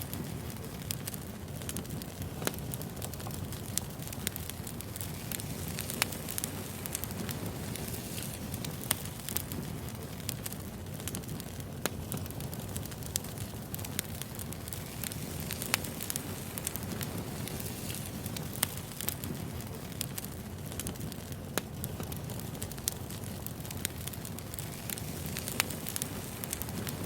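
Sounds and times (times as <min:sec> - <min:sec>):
burning logs crackling and popping: 0:00.0 - 0:27.0
wood fire rumbling: 0:00.0 - 0:27.0.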